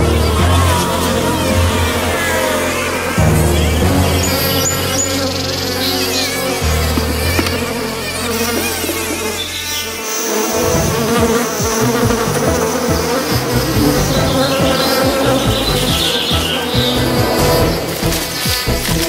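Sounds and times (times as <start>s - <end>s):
cartoon bees buzzing: 0.0s - 19.0s.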